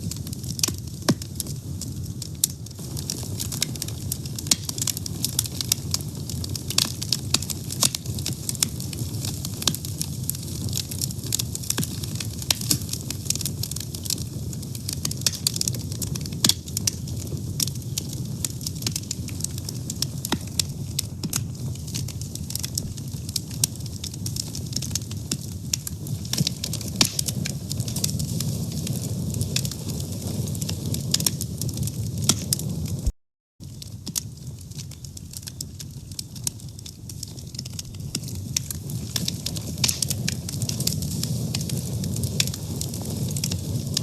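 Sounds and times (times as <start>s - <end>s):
fire crackling and popping: 0.0s - 44.0s
low rumble of flame: 0.0s - 44.0s.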